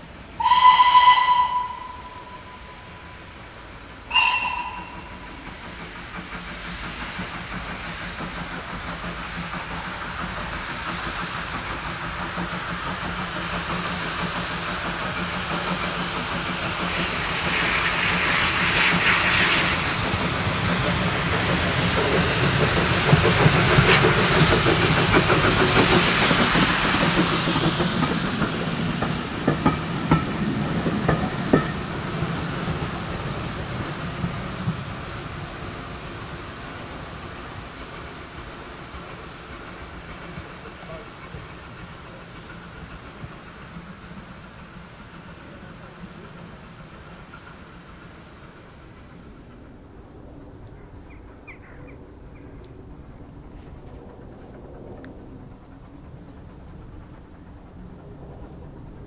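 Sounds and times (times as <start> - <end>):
steam hissing from locomotive: 0.0 - 59.0
train wheels clicking over rail joints: 3.5 - 59.0.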